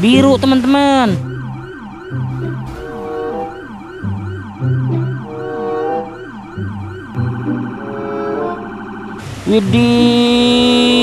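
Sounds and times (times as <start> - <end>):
electronic siren yelping: 0.1 - 11.0.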